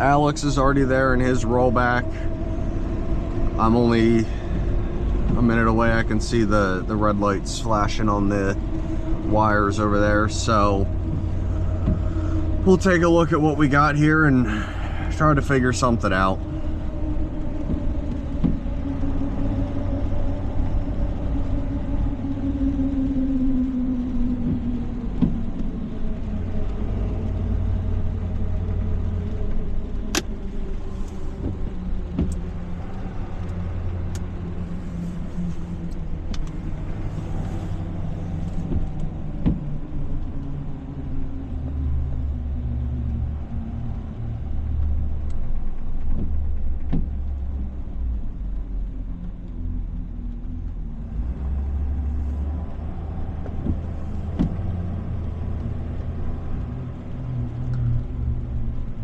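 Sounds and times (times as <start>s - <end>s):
truck engine and road rumble: 0.0s - 59.0s.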